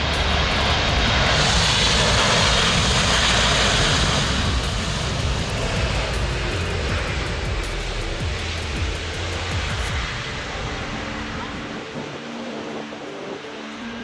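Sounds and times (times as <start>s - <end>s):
jet airliner passing low: 0.0s - 14.0s.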